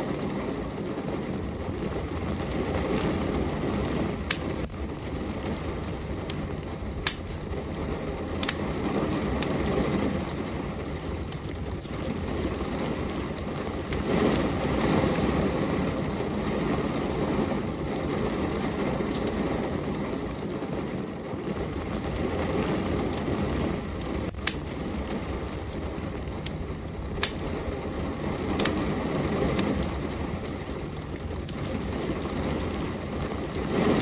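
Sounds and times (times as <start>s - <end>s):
fireplace crackling: 0.0s - 34.0s
steady rain: 0.0s - 34.0s.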